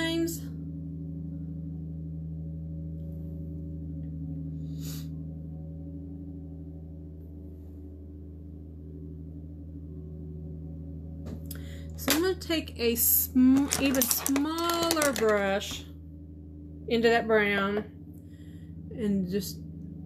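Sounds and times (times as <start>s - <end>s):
low steady background hum: 0.0s - 20.0s.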